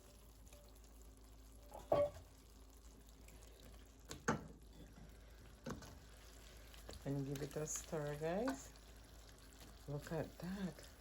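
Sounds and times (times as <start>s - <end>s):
fish frying in pot: 0.0s - 11.0s.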